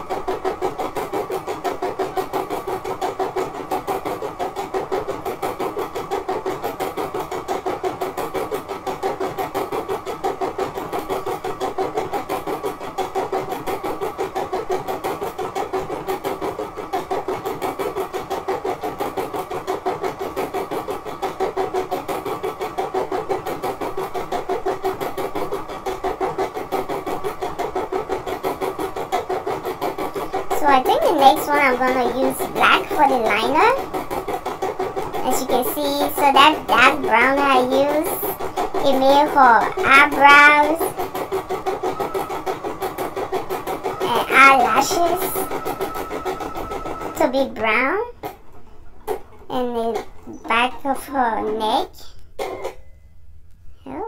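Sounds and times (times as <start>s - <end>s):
embroidery machine stitching: 0.0s - 52.9s.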